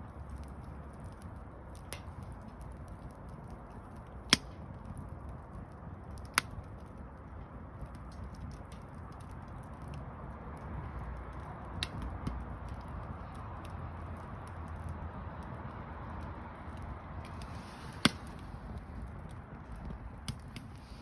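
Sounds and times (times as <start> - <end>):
campfire hissing and crackling: 0.1 - 21.0
sharp pops from burning wood: 0.2 - 21.0.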